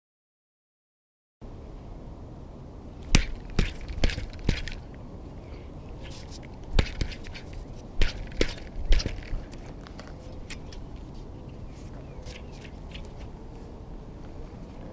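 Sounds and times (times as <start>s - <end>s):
low background noise: 1.4s - 14.9s.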